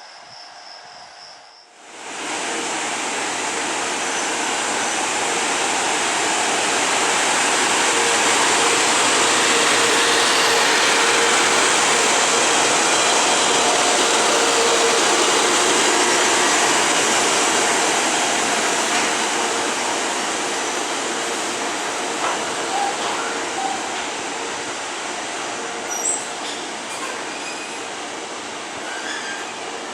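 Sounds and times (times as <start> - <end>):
train wheel and rail noise: 0.0 - 29.9.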